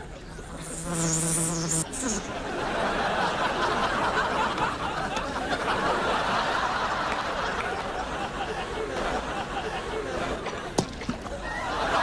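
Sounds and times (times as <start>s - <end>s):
audience laughing: 2.0s - 12.0s.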